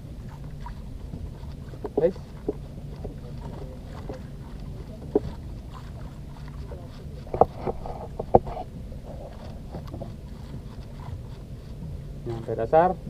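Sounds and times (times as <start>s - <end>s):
boat engine rumble: 0.0s - 13.0s.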